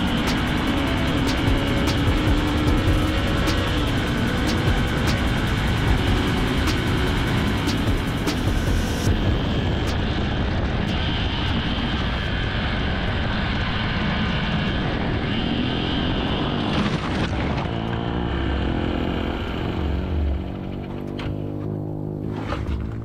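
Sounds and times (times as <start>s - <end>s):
wind rumble on microphone: 0.0s - 18.8s
motorcycle engine running: 0.0s - 23.0s.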